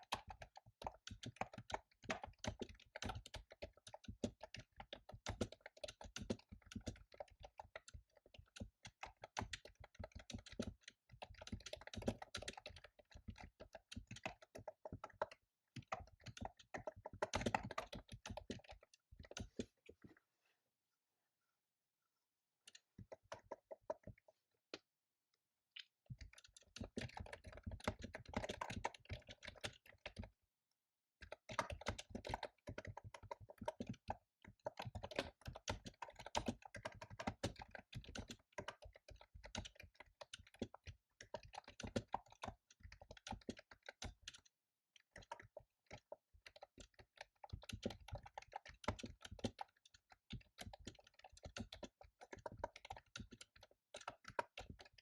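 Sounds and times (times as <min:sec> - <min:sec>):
fast typing on computer keyboard: 0:00.0 - 0:20.0, 0:22.7 - 0:24.4, 0:25.8 - 0:30.4, 0:31.2 - 0:55.0.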